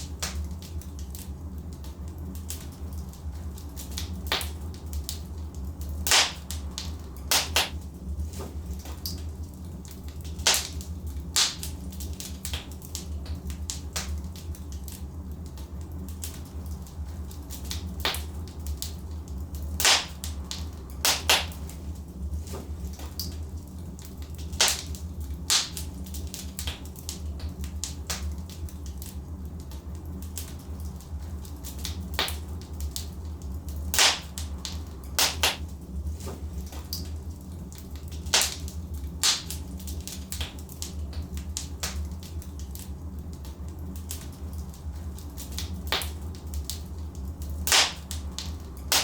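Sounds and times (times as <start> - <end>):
fire low rumble: 0.0 - 49.0
logs crackling and popping: 0.0 - 49.0
loud snaps of fire: 0.0 - 49.0.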